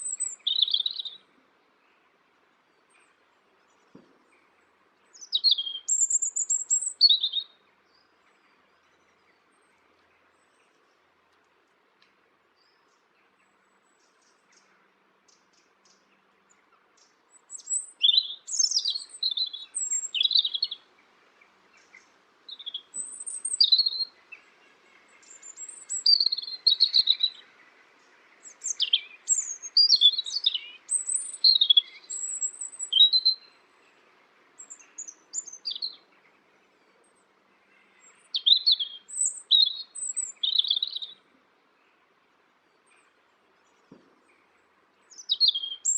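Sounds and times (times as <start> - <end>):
songbird chirps and trills: 0.0 - 45.9.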